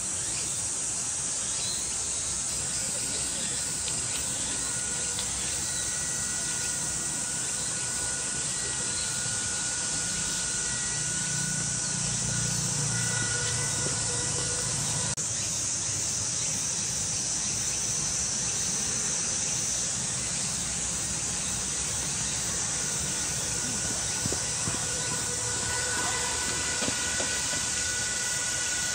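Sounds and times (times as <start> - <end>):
insects hissing: 0.0 - 28.9.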